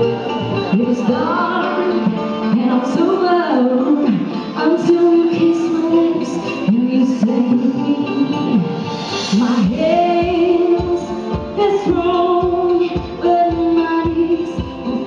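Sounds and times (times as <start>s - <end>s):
woman singing a pop ballad: 0.7s - 15.0s.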